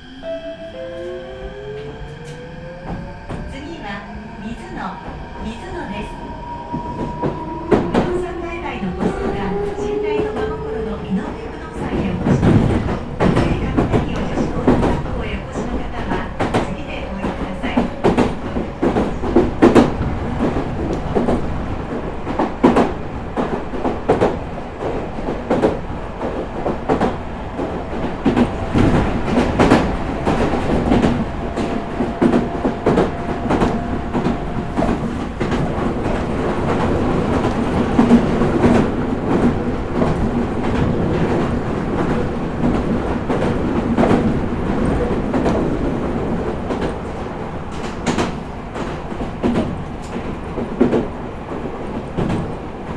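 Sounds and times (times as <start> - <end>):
train rumble inside car: 6.7 - 52.9.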